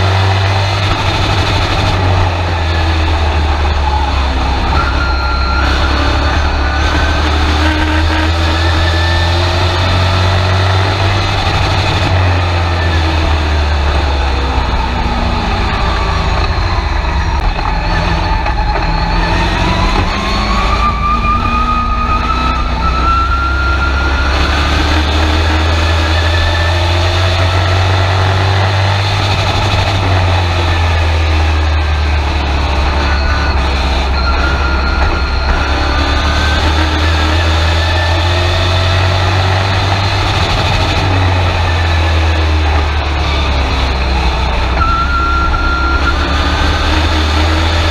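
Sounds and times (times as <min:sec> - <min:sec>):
heavy low rumble: 0:00.0 - 0:46.9
race truck engine under load: 0:00.0 - 0:47.9.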